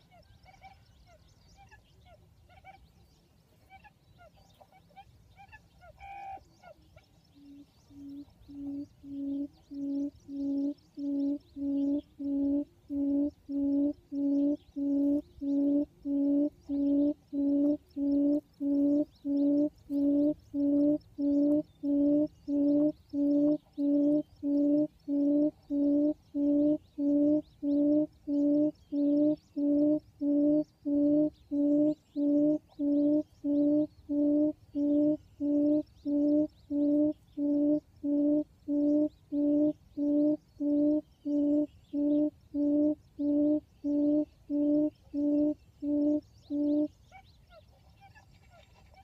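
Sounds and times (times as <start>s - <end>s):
small birds chirping: 0.0s - 49.0s
quail lure call hooting: 7.4s - 49.0s.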